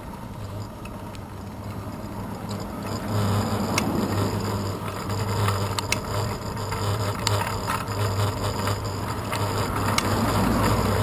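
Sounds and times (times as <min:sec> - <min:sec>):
bicycle road rumble: 0:00.0 - 0:11.0.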